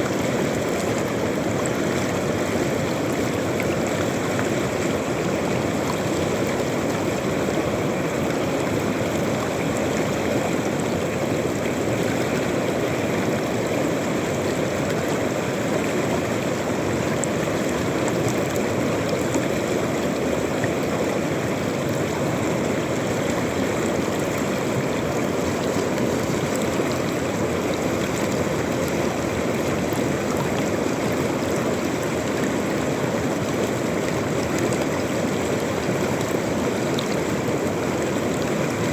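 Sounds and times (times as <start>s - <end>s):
river water rushing over stones: 0.0s - 38.9s.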